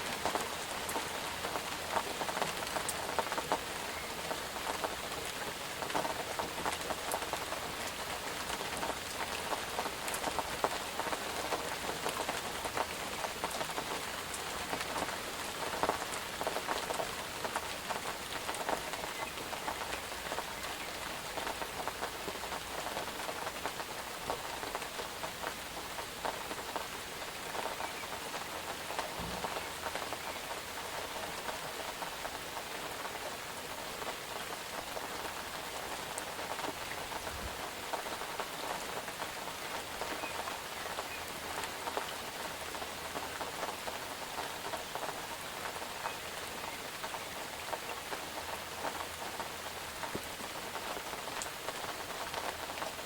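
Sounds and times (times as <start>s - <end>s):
rain falling: 0.0s - 53.0s
raindrops pattering on a surface: 0.0s - 53.0s.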